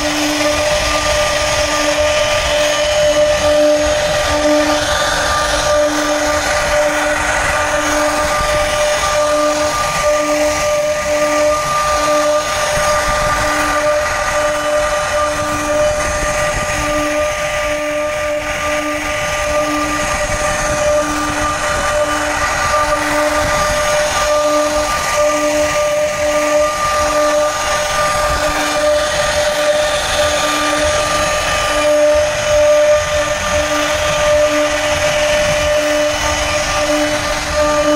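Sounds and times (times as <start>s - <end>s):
electric power tool whining: 0.0s - 37.9s.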